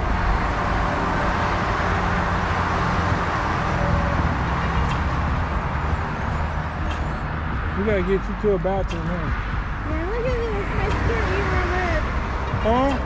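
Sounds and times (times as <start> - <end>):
low rumble: 0.0 - 13.0
wind and road noise: 0.0 - 13.0.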